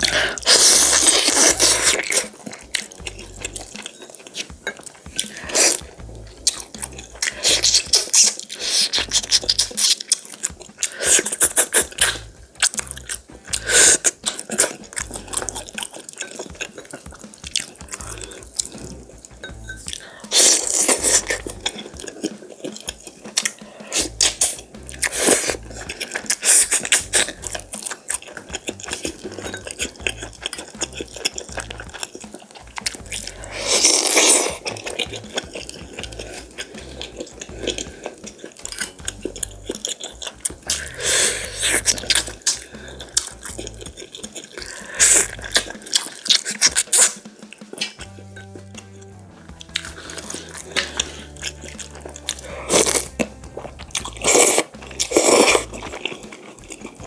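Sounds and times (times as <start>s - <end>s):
sucking slurps: 0.0s - 48.0s, 49.5s - 57.0s
wet smacking and chewing: 0.0s - 57.0s.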